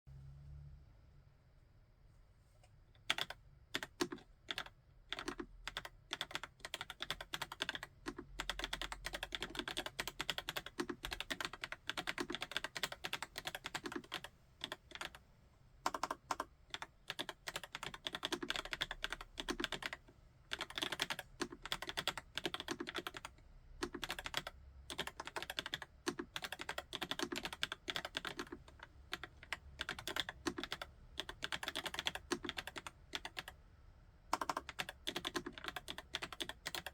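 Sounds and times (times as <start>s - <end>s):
mechanical keyboard typing: 3.0s - 15.2s, 15.9s - 33.6s, 34.3s - 36.9s.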